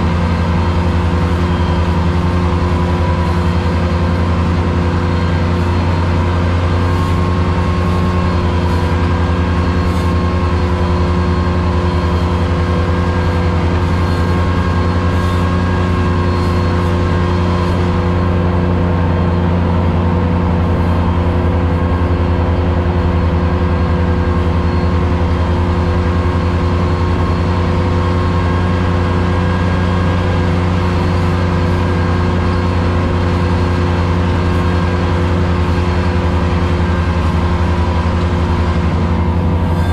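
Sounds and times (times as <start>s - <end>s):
mower cutting tall grass: 0.0s - 39.9s
tractor engine under load: 0.0s - 39.9s.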